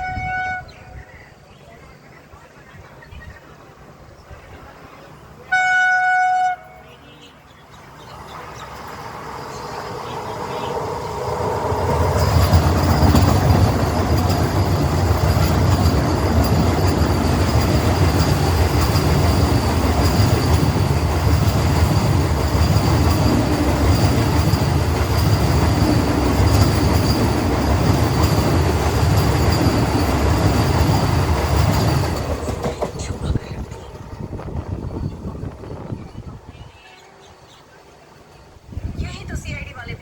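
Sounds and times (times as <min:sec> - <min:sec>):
train high whine: 0:00.0 - 0:40.0
train wheels rushing on rail: 0:07.6 - 0:40.0.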